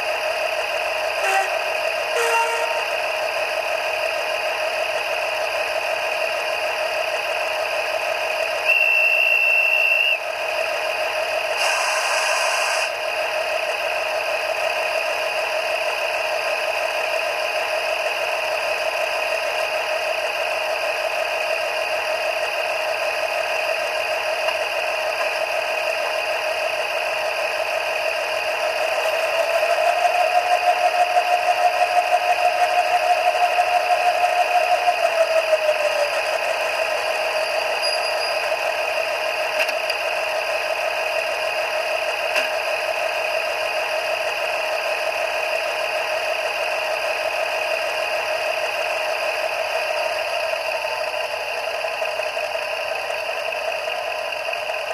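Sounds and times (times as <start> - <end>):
diesel engine sound from small speaker: 0.0 - 54.9.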